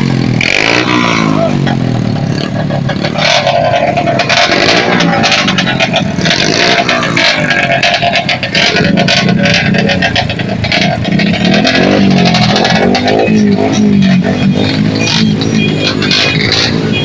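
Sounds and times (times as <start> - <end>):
small engines revving: 0.0 - 17.0.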